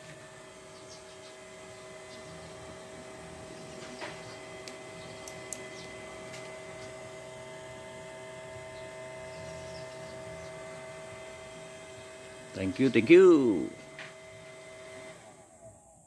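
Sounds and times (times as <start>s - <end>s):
inverter electrical hum: 0.0s - 16.0s.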